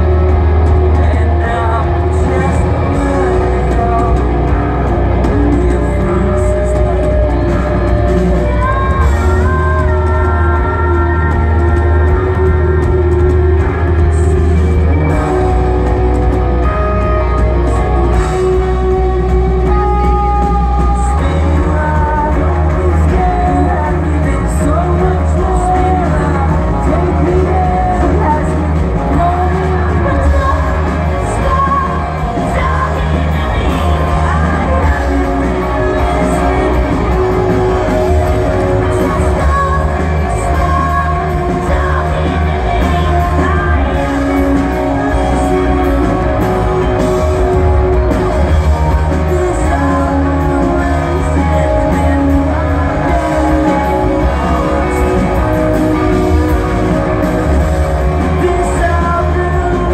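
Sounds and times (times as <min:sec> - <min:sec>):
bass: 0:00.0 - 0:59.9
drums: 0:00.0 - 0:59.9
electric guitars: 0:00.0 - 0:59.9
person singing: 0:00.0 - 0:59.9.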